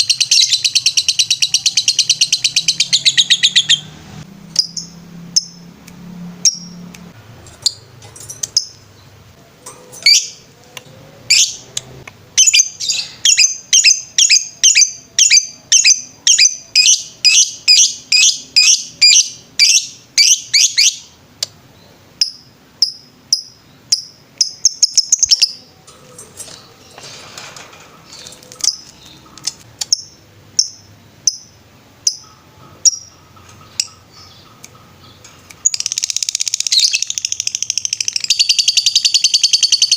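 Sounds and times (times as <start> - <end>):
lovebird chirping: 0.0 - 9.4, 10.0 - 27.0, 28.1 - 39.9.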